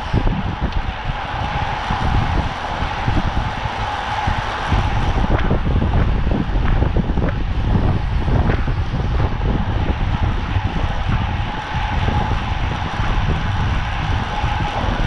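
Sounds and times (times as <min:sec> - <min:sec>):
low rumble: 0:00.0 - 0:15.0
wind rushing over microphone: 0:00.0 - 0:15.0.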